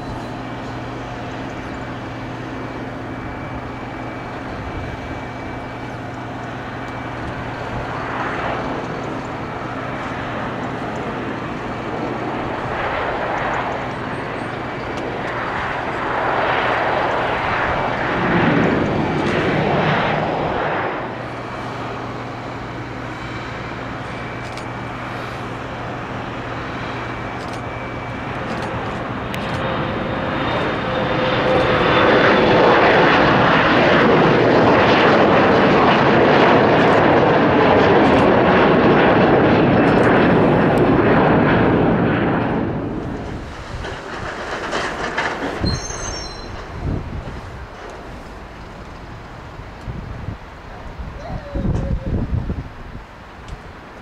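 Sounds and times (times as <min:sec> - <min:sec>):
jet engines taking off: 0:00.0 - 0:54.0
turboprop engine running: 0:00.0 - 0:54.0.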